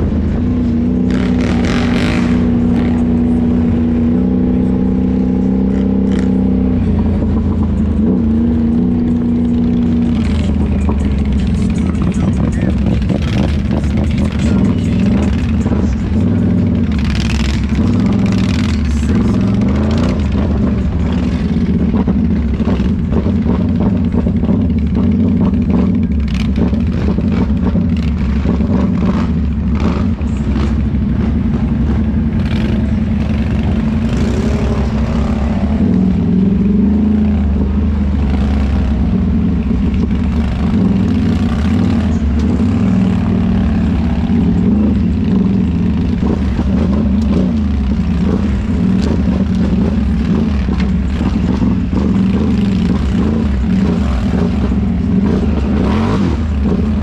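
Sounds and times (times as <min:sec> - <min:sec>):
atv engine revving: 0:00.0 - 0:57.0
clatter: 0:09.0 - 0:57.0.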